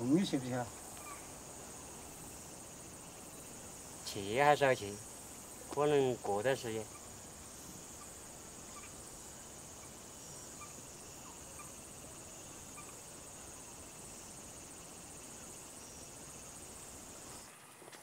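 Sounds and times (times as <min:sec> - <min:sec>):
insects chirring: 0:00.0 - 0:18.0
low field noise hum: 0:00.0 - 0:18.0.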